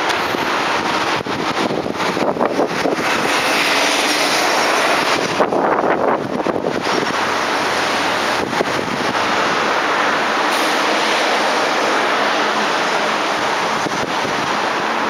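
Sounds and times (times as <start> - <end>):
train wheels on rail: 0.0 - 15.0
wind noise on microphone: 0.0 - 15.0.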